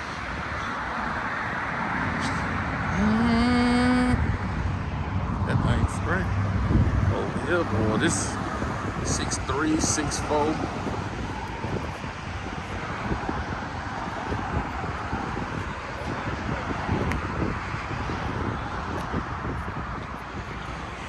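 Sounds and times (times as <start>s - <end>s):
low rumble of vehicles: 0.0s - 21.0s
wind buffeting microphone: 0.0s - 21.0s.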